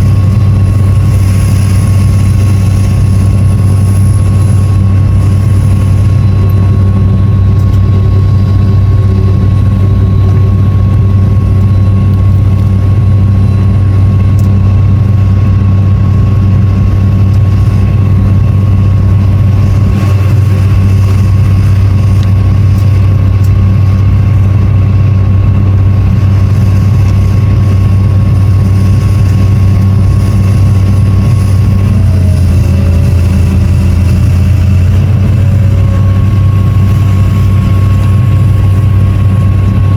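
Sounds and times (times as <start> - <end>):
excavator diesel engine running: 0.0 - 39.9
thin steady whine: 0.0 - 39.9.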